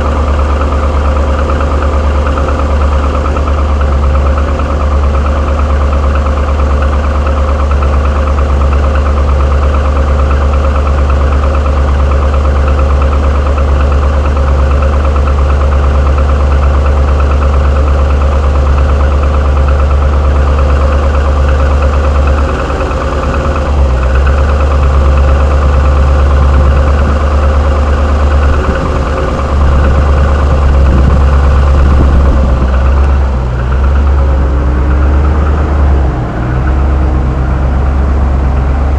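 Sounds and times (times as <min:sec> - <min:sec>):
car engine running with knocking rattle: 0:00.0 - 0:38.9.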